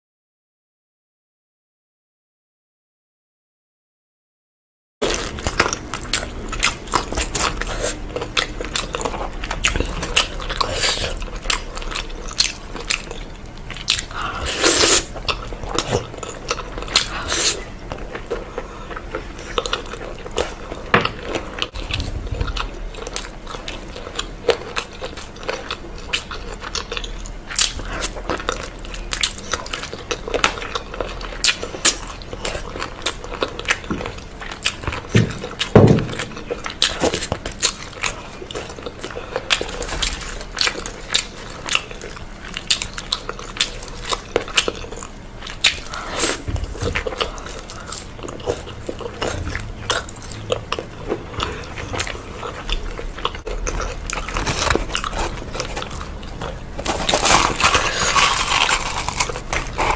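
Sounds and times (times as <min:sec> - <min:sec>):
person chewing and crunching food: 0:05.0 - 0:59.9.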